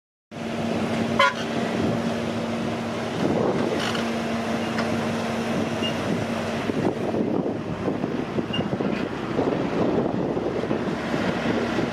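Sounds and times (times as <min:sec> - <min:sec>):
diesel truck engine drone: 0:00.3 - 0:11.9.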